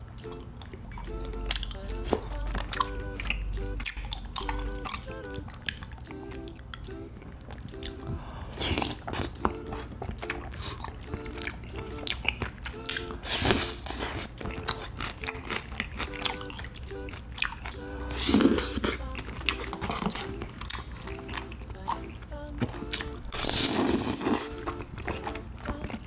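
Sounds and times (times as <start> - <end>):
person chewing with wet mouth sounds: 0.0 - 26.0.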